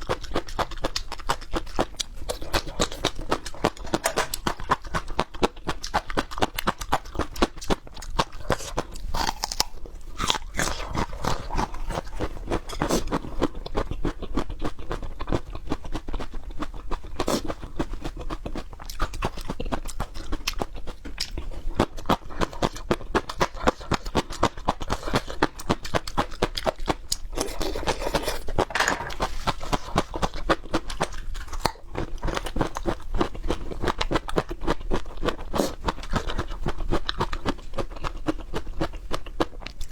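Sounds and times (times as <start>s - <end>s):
peppers crunching when chewed: 0.0s - 39.9s.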